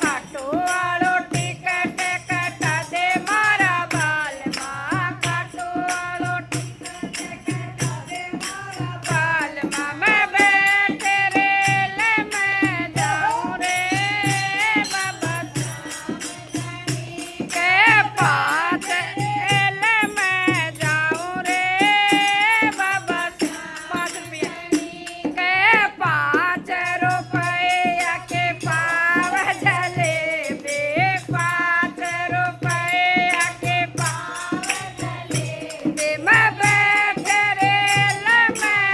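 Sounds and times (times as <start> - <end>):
shaker-like rattle: 0.0 - 38.9.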